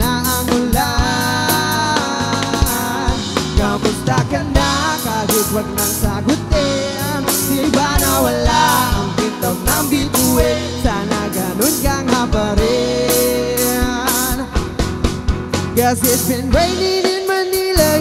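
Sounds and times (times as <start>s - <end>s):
drum kit: 0.0s - 18.0s
electric bass: 0.0s - 18.0s
electric guitars: 0.0s - 18.0s
sliding melody line: 0.0s - 18.0s.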